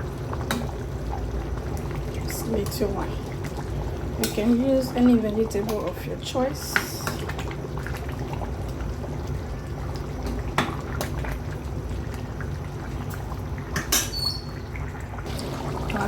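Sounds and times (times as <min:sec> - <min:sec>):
soup bubbling in a pot: 0:00.0 - 0:16.0.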